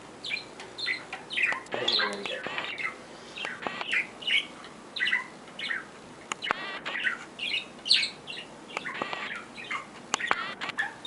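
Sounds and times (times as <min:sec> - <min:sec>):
pet bird chirping and squawking: 0:00.2 - 0:11.0.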